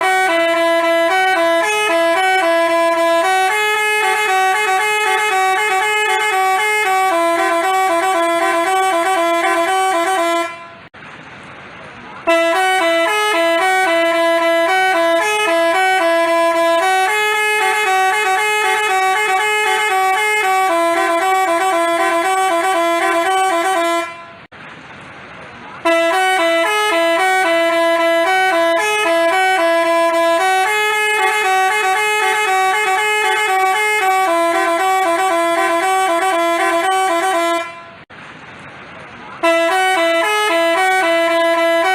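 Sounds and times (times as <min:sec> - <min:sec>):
bus horn tooting melody: 0:00.0 - 0:10.9, 0:12.2 - 0:24.5, 0:25.8 - 0:38.1, 0:39.4 - 0:41.9.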